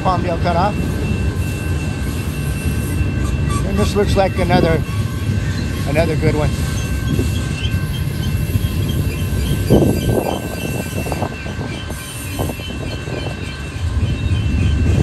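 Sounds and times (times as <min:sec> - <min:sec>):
freight train rumbling: 0:00.0 - 0:15.0
high squeal of train wheels: 0:00.2 - 0:15.0.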